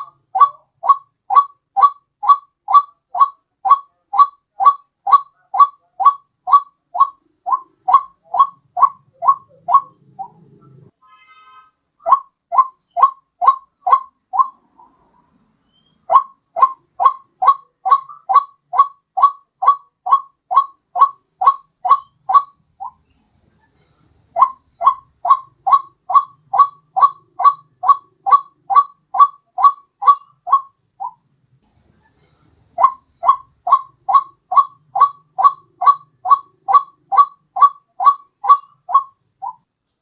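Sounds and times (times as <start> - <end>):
waterhen calls: 0.0 - 10.9, 12.0 - 23.0, 24.3 - 31.2, 32.8 - 39.6.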